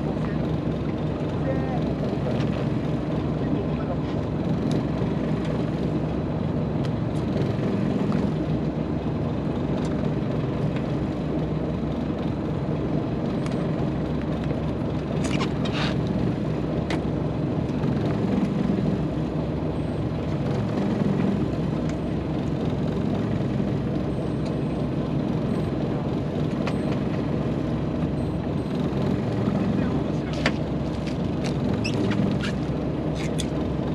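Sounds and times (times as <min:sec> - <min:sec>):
boat engine rumbling: 0:00.0 - 0:33.9.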